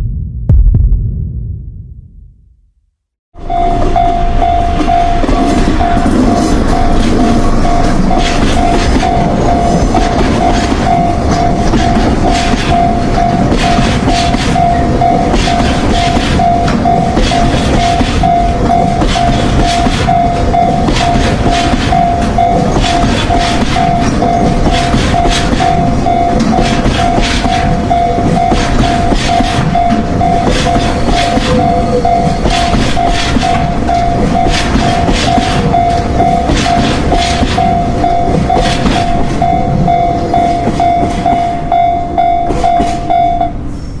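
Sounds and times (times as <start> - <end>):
pulsing tone: 3.4 - 43.9
train rumbling: 3.4 - 44.0.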